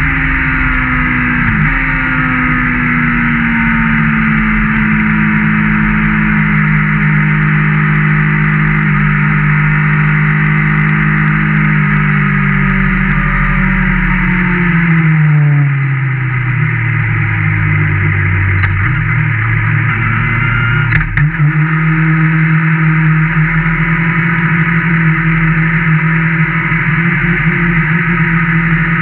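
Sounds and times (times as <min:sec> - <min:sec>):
race car engine: 0:00.0 - 0:29.0
wind and tyre noise: 0:00.0 - 0:29.0.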